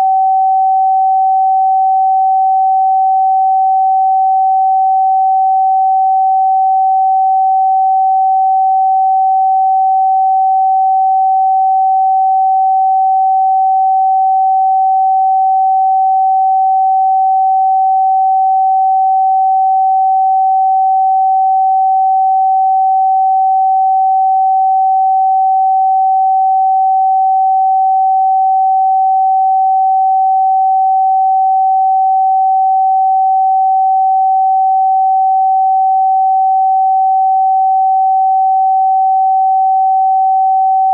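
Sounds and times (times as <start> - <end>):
sine wave tone: 0.0 - 40.9.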